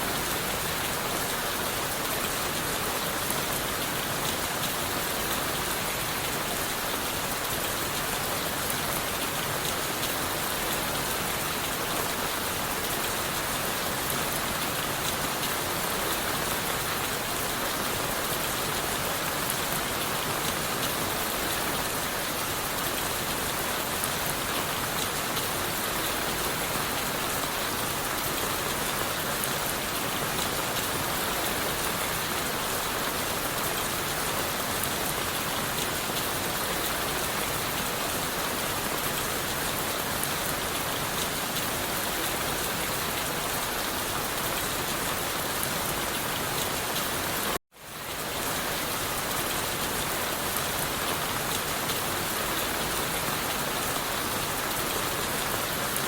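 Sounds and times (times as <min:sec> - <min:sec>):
rain on leaves and wood: 0:00.0 - 0:56.0.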